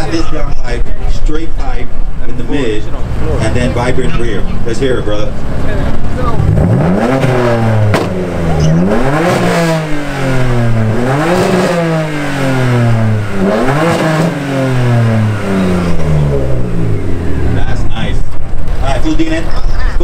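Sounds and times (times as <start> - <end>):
car engine revving: 0.0 - 20.0
exhaust crack: 0.3 - 20.0.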